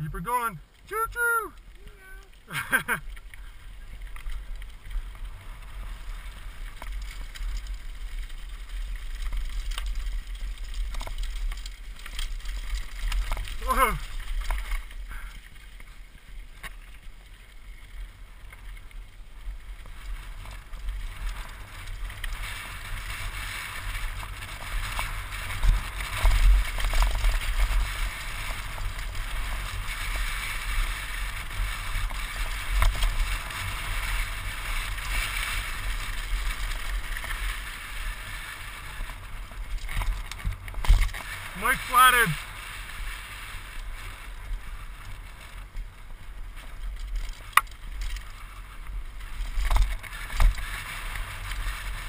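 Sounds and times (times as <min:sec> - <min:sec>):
bike tyres rolling on gravel: 0:00.0 - 0:52.0.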